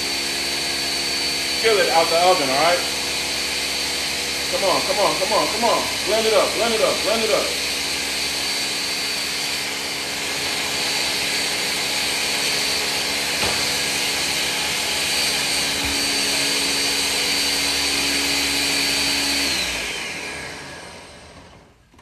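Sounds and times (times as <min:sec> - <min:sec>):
blender motor whine: 0:00.0 - 0:22.0.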